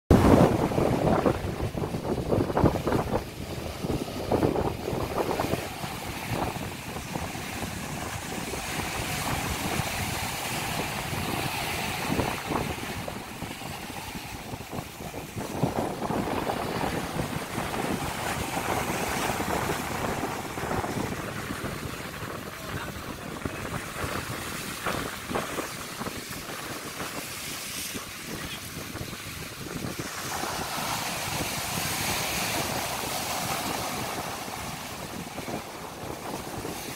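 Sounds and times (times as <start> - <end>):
surf breaking over seawall: 0.1 - 36.9
wind buffeting microphone: 0.1 - 36.9.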